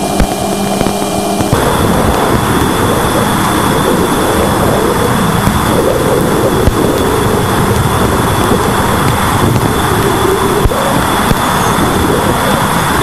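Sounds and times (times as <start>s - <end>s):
rumbling hiss with crackles: 0.0s - 13.0s
steady high tone: 0.0s - 13.0s.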